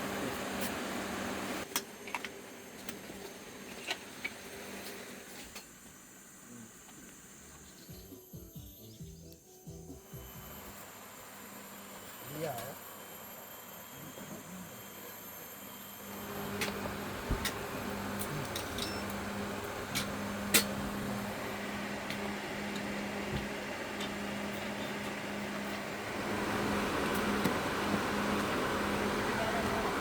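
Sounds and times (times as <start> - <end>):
small motor humming: 0.0 - 30.0.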